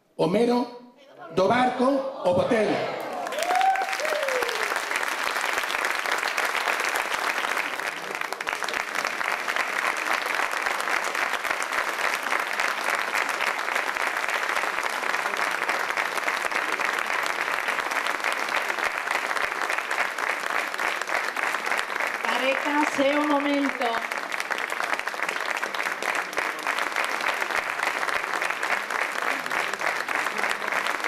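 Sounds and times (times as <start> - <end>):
audience applauding: 2.7 - 31.0.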